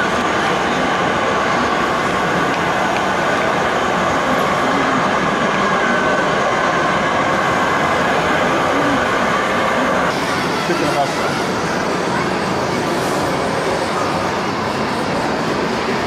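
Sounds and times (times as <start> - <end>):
exhibition hall background rush: 0.0 - 16.0.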